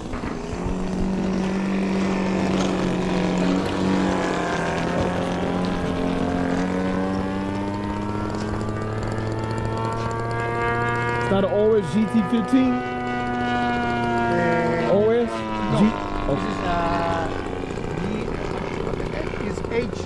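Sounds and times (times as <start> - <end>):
model airplane engine running: 0.0 - 20.0.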